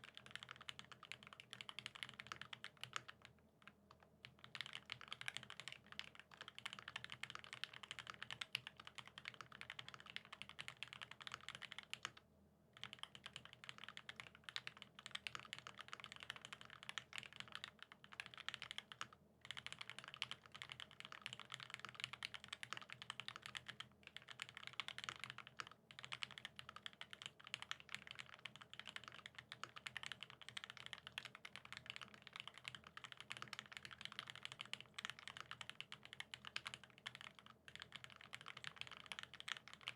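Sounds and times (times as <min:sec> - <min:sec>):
fast mechanical keyboard typing: 0:00.0 - 0:03.3, 0:04.2 - 0:12.2, 0:12.8 - 0:39.9.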